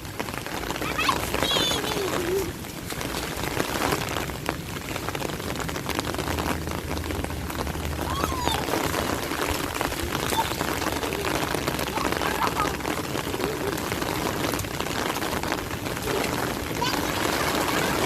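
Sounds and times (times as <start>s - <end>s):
raindrops splashing close by: 0.0s - 18.0s
steady rain falling: 0.0s - 18.0s.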